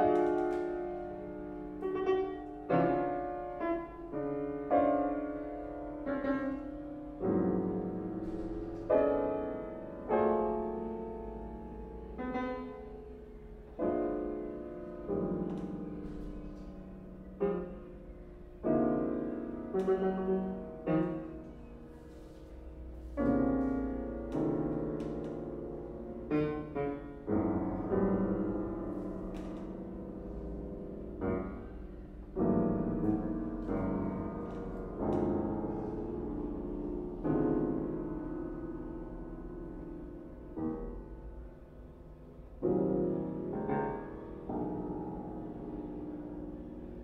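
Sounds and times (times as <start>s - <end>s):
two pianos playing chords: 0.0s - 47.0s.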